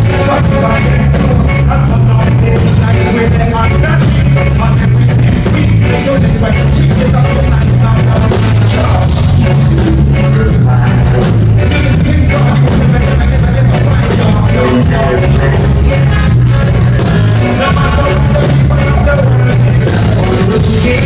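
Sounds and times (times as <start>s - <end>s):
heavy bass line: 0.0s - 21.0s
live band playing loud music: 0.0s - 21.0s
steady drum beat: 0.0s - 21.0s.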